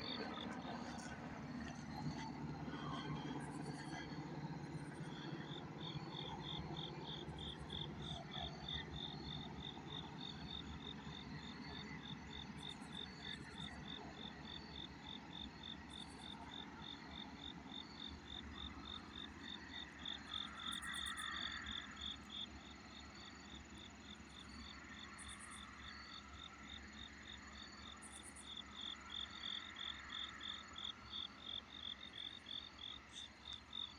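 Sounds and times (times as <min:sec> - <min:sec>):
insects chirping: 0:00.0 - 0:33.9.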